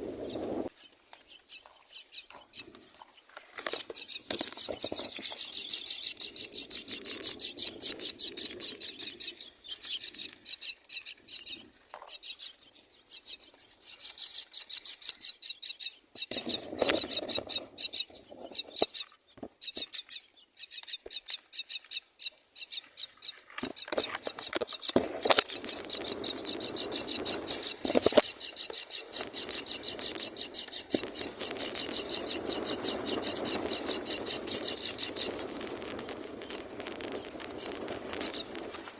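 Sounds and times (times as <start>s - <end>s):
nestlings begging with raspy calls: 0.2s - 38.7s.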